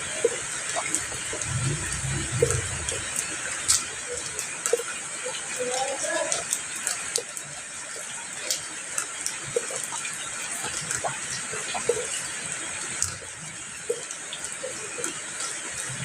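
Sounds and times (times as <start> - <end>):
raindrops plinking: 0.0 - 16.0
steady rainfall: 0.0 - 16.0.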